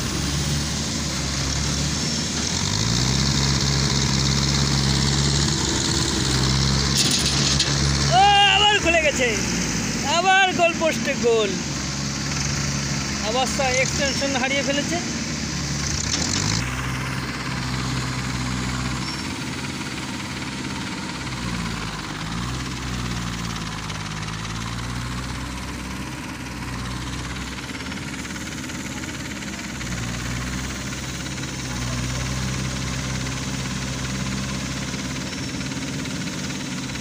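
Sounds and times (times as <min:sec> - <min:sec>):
tractor engine labouring: 0:00.0 - 0:37.0.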